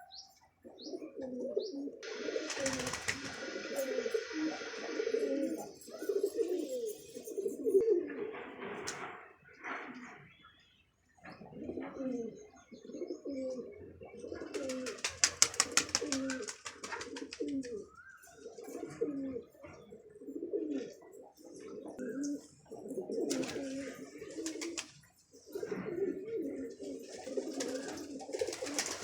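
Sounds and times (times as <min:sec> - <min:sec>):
pigeons cooing: 0:00.0 - 0:10.3, 0:11.2 - 0:29.0.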